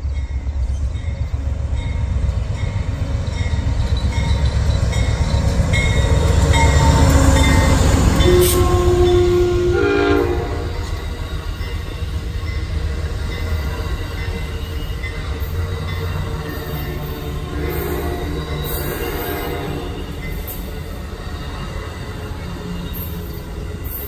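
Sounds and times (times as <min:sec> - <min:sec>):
train engine and wheels rumbling: 0:00.0 - 0:24.0.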